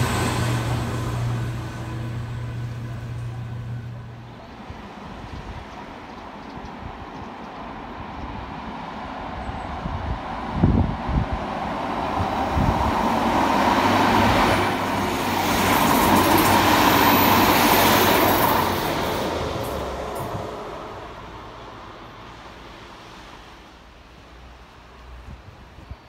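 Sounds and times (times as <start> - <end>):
diesel train passing: 0.0 - 25.8.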